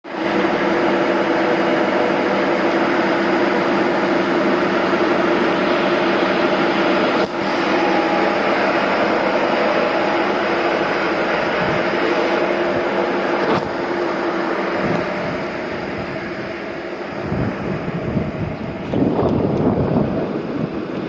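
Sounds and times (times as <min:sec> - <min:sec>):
diesel engine idling: 0:00.1 - 0:21.0.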